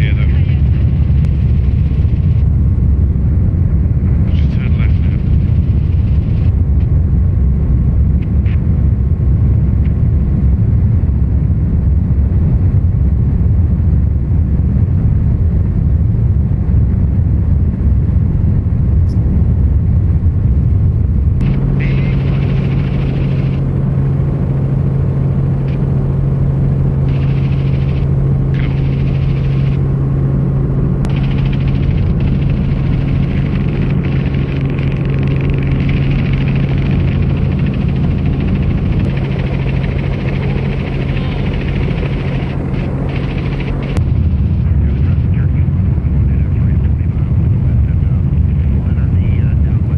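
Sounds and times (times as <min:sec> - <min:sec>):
helicopter engine and rotor rumble: 0:00.0 - 0:49.9
steady low hum: 0:00.0 - 0:49.9.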